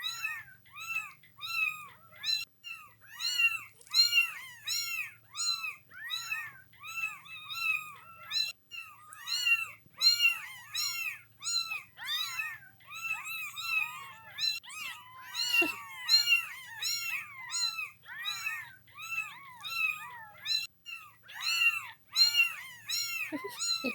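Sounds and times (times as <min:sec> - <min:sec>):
kittens meowing: 0:00.0 - 0:23.9.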